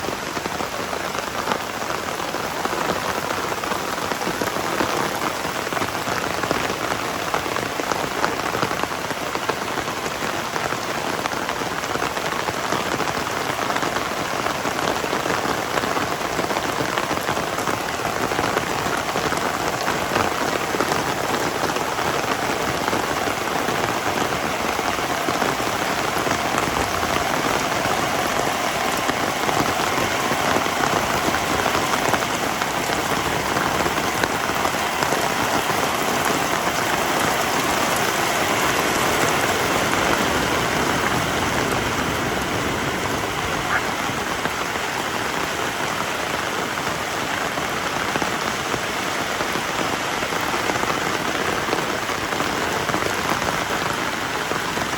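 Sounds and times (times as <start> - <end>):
heavy rain hiss: 0.0 - 54.9.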